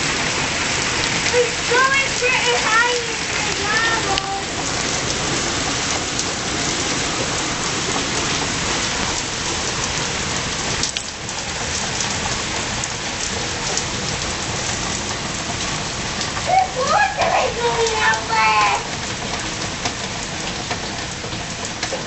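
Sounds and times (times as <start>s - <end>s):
heavy rain on stone paving: 0.0s - 22.0s.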